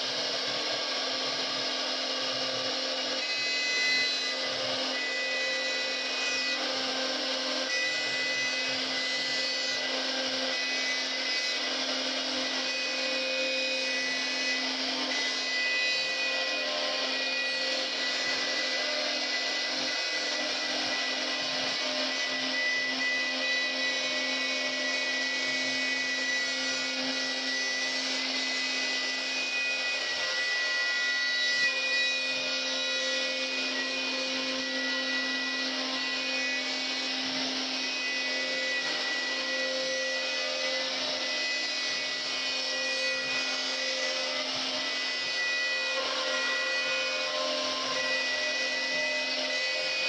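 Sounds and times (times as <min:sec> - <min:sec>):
router bit cutting wood: 0:00.0 - 0:50.0
router spindle whining: 0:00.0 - 0:50.0.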